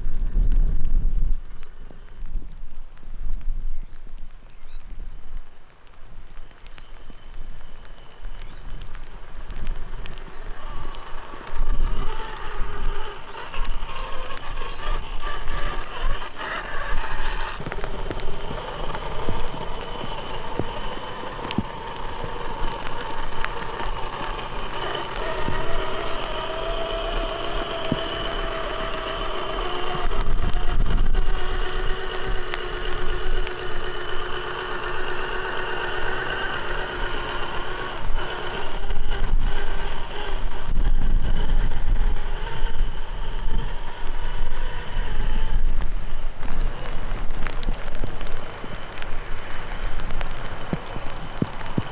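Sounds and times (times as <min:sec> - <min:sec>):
electric motor and gears whining: 0:05.4 - 0:51.9.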